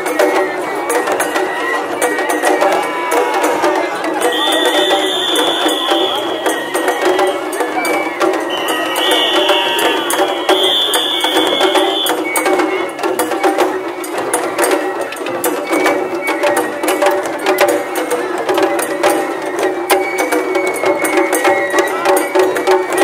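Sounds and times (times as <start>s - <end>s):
festival drums and percussion: 0.0s - 23.0s.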